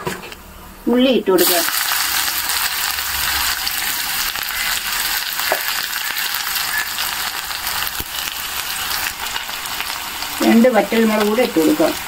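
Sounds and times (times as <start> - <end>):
shallots sizzling in hot oil: 1.3 - 12.0.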